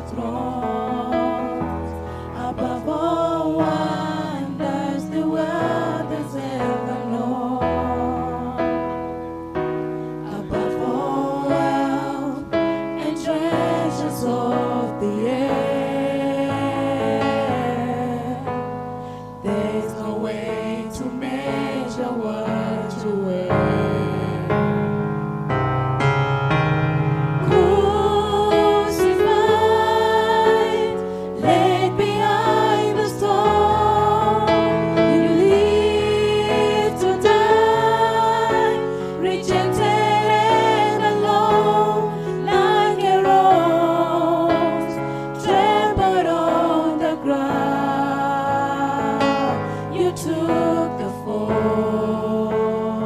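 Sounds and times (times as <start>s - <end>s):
choir singing: 0.0s - 18.8s, 19.4s - 24.9s, 27.4s - 53.0s
keyboard accompaniment: 0.0s - 53.0s.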